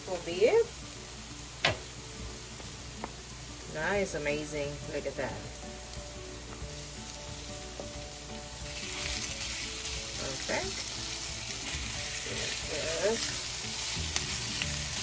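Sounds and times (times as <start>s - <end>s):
beef sizzling in oil: 0.0s - 15.0s.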